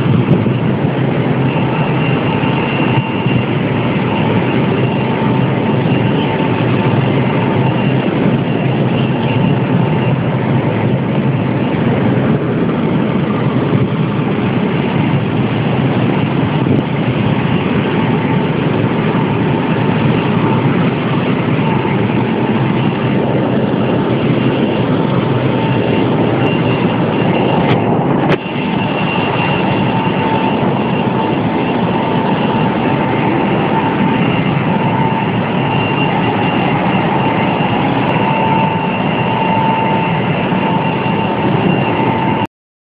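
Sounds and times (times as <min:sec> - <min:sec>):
cooling tower water and fan rush: 0:00.0 - 0:42.5
thin steady whine: 0:00.0 - 0:42.5.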